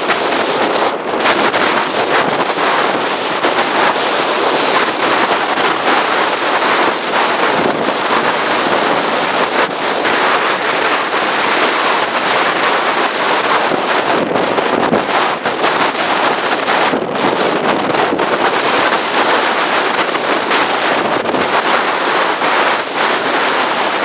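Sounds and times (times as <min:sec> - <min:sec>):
surf breaking: 0:00.0 - 0:24.0
wind buffeting microphone: 0:00.0 - 0:24.0.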